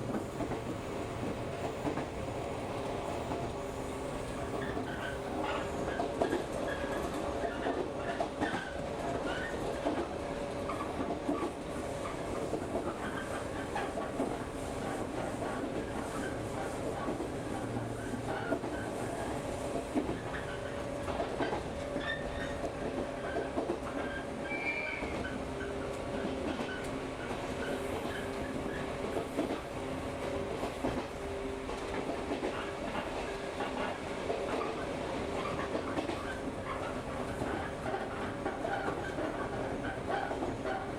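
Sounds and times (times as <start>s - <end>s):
electric train rumbling: 0.0s - 40.9s.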